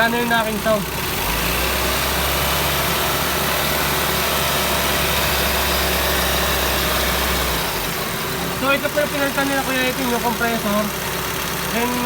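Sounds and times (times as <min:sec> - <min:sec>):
car engine running at raised revs: 0:00.0 - 0:12.0.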